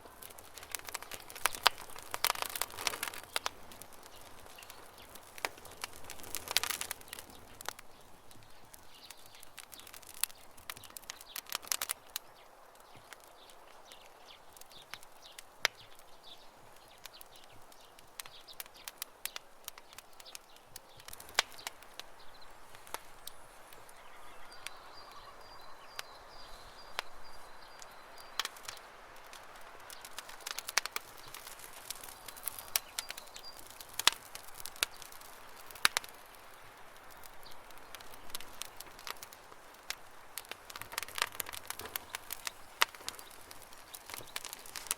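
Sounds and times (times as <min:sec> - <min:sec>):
birds chirping: 0:00.0 - 0:44.9
campfire wood crackling: 0:00.0 - 0:44.9.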